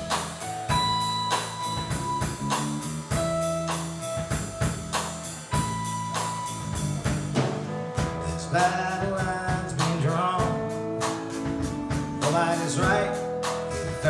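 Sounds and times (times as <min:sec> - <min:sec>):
bass guitar line: 0:00.0 - 0:14.0
steady drum kit beat: 0:00.0 - 0:14.0.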